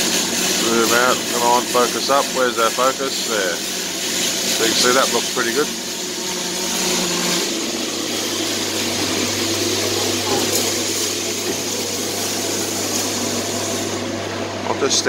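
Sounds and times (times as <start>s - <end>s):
machinery hiss: 0.0s - 14.8s.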